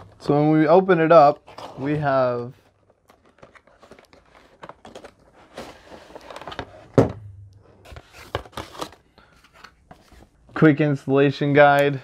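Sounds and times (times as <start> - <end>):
cardboard and plastic packaging rustling: 0.0 - 7.2, 7.8 - 10.6.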